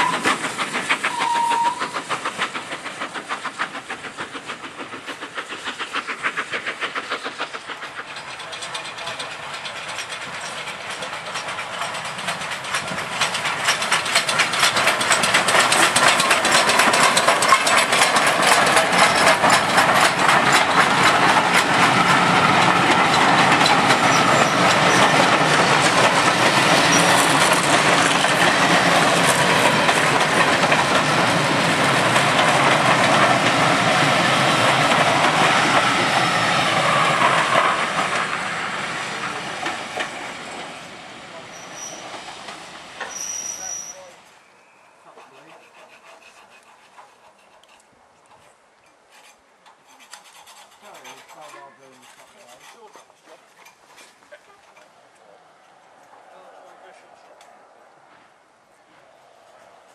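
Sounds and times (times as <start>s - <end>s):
wheels clicking over rail joints: 0.0s - 40.7s, 41.5s - 44.2s, 45.1s - 57.5s
train passing at speed: 0.0s - 47.4s, 54.7s - 59.9s.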